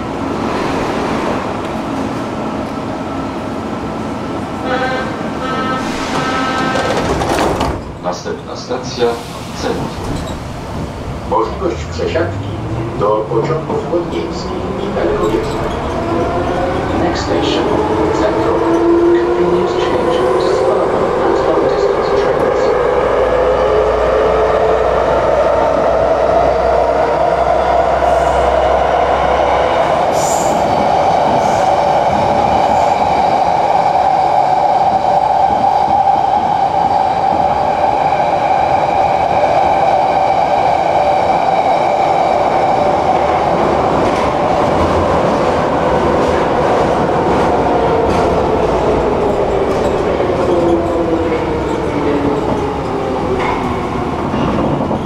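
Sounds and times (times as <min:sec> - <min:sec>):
wheels rumbling on rails: 0:05.6 - 0:55.0.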